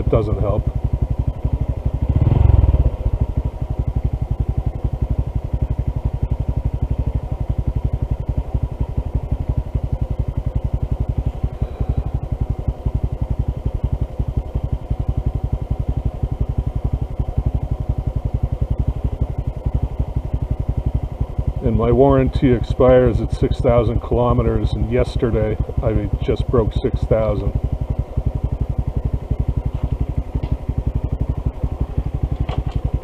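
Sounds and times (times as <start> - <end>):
motorcycle engine running at low revs: 0.0 - 33.0.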